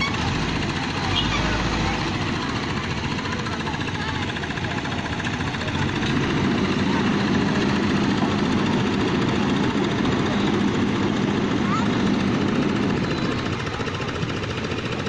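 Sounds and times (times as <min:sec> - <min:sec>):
machinery engine pulsing: 0:00.0 - 0:15.0.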